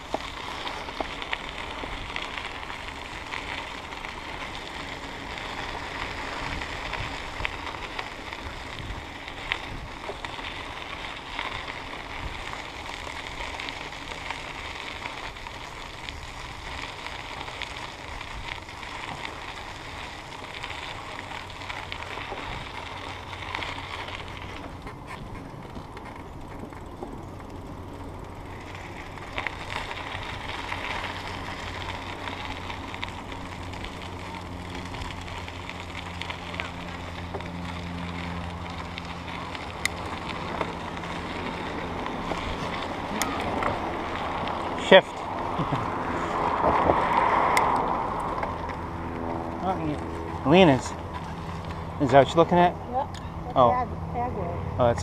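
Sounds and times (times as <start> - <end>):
bicycle tyres hissing: 0.0 - 52.8
bike rattling over bumps: 0.0 - 55.0.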